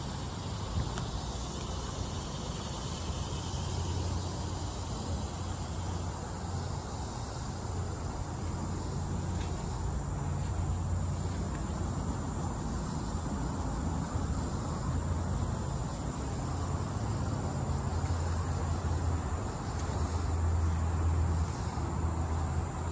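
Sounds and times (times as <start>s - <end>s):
diesel engine idling: 0.0s - 22.9s
insects chirring: 0.0s - 22.9s.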